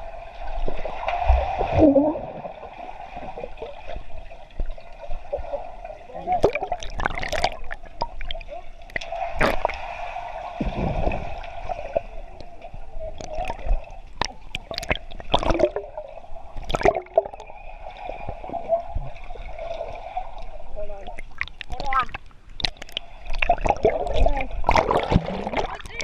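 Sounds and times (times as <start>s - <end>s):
muffled water gurgling and sloshing: 0.0s - 26.0s
water splashes: 0.0s - 26.0s.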